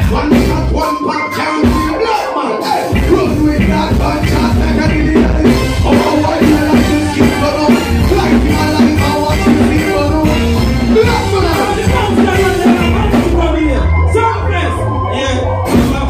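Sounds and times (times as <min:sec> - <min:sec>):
bass: 0:00.0 - 0:02.1, 0:02.8 - 0:16.0
drums: 0:00.0 - 0:16.0
keyboards: 0:00.0 - 0:16.0
person singing: 0:00.0 - 0:16.0.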